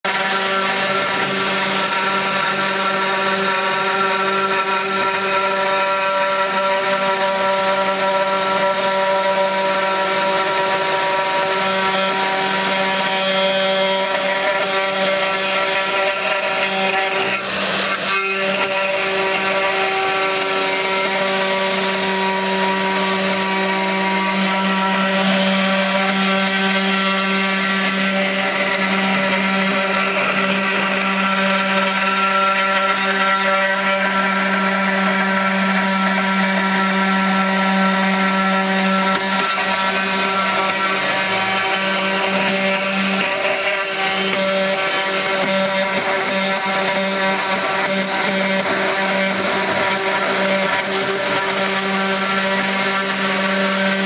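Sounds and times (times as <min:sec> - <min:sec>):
router spindle whine: 0:00.0 - 0:54.0
bit milling metal: 0:00.1 - 0:54.0.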